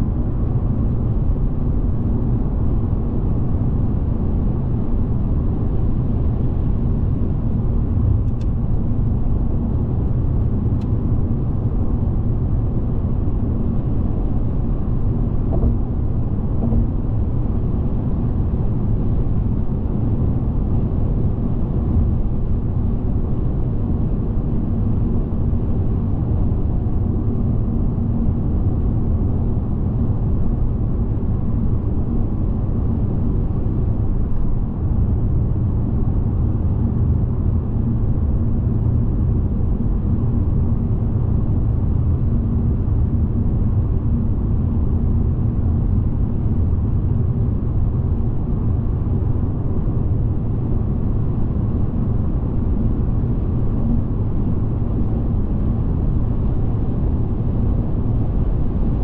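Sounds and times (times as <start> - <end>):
car driving at speed: 0.0 - 59.0.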